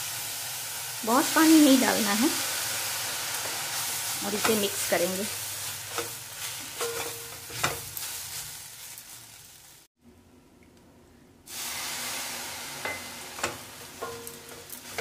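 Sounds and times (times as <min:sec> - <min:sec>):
food sizzling in a pan: 0:00.0 - 0:09.9, 0:11.5 - 0:15.0.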